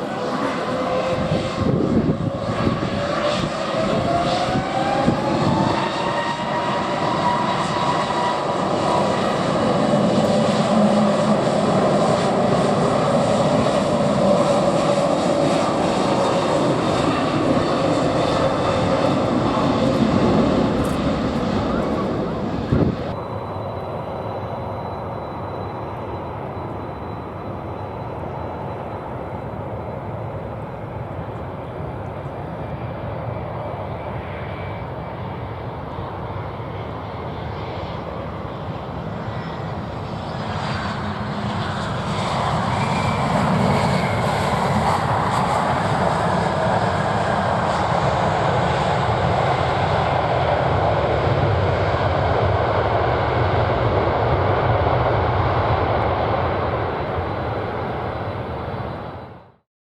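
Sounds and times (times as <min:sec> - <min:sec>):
airliner engines running: 0:00.0 - 0:59.6.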